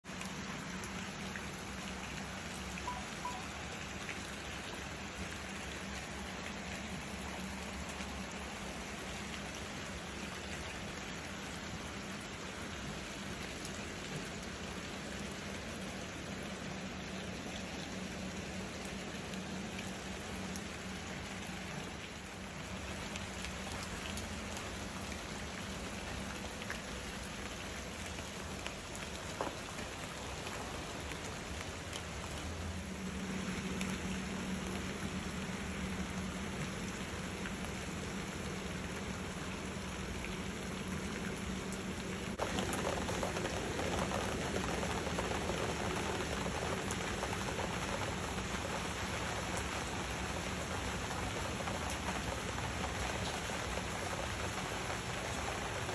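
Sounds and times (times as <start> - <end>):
rain on leaves and pavement: 0.0 - 55.9.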